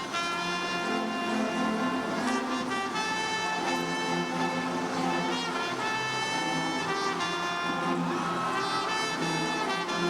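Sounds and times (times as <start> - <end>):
brass band playing chords: 0.0 - 10.0.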